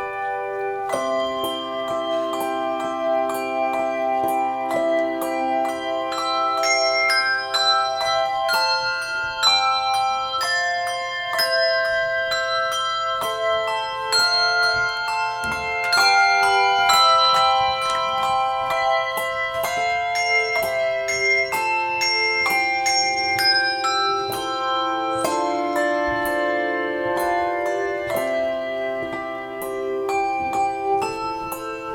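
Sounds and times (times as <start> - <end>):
handbell choir playing chords: 0.0 - 31.9.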